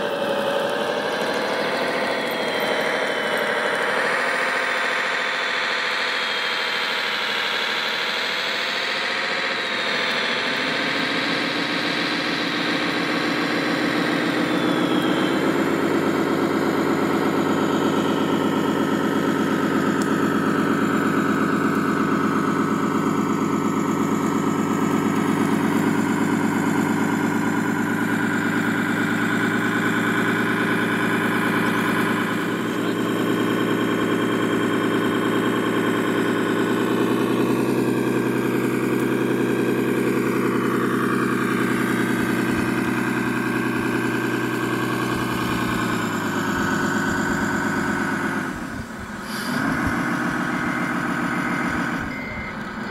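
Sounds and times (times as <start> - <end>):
simulated diesel truck engine: 0.0 - 52.9.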